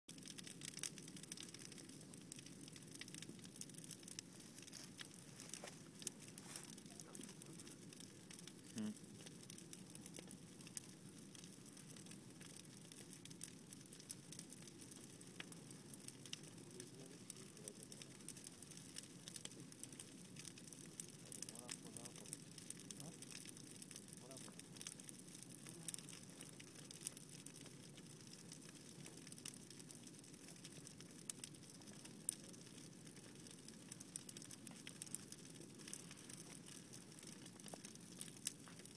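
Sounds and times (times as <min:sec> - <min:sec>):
campfire crackling and popping: 0:00.1 - 0:38.9.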